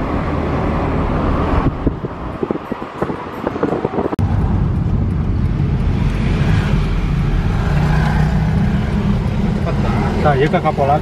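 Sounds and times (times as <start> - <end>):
wind buffeting microphone: 0.0 - 9.6
engine and road noise drone: 0.0 - 11.0.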